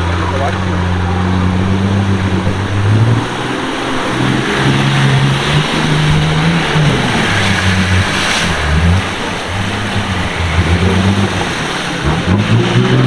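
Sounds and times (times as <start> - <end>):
engine revving: 0.0 - 13.0
steady rushing noise: 0.0 - 13.0.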